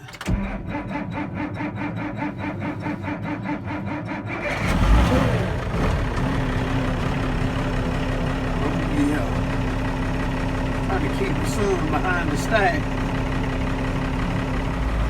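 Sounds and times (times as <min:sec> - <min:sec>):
diesel engine revving and idling: 0:00.0 - 0:15.0
starter motor cranking: 0:00.0 - 0:15.0.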